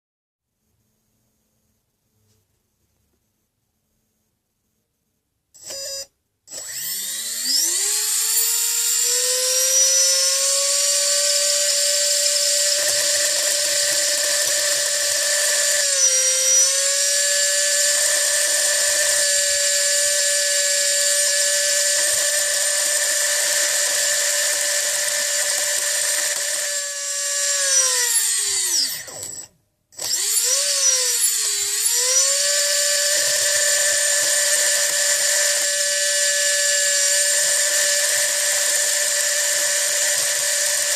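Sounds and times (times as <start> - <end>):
electric motor whining: 5.6 - 40.9.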